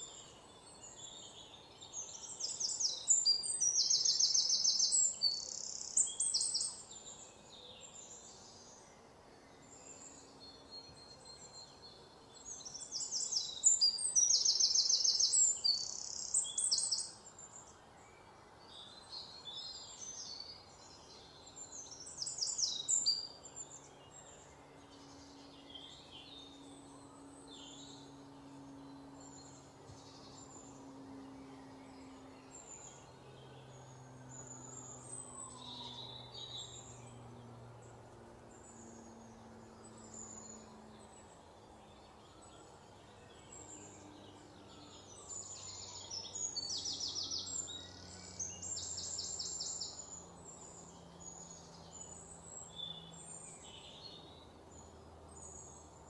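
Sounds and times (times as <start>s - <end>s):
faint low hum: 0.0s - 56.0s
small birds chirping: 0.0s - 56.0s.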